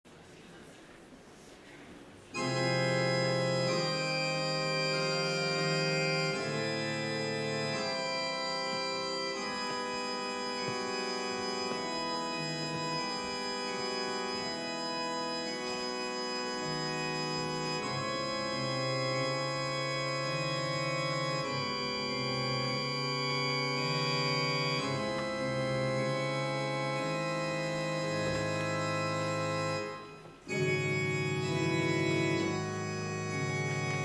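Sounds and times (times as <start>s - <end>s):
organ playing chords: 2.3s - 34.0s.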